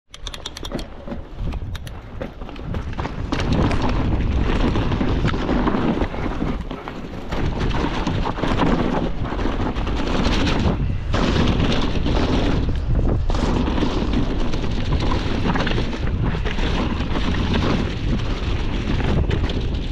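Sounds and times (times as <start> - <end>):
bike rattling and knocking: 0.1 - 19.9
wind buffeting microphone: 0.1 - 19.9
bike tyres rolling on dirt: 1.0 - 19.9.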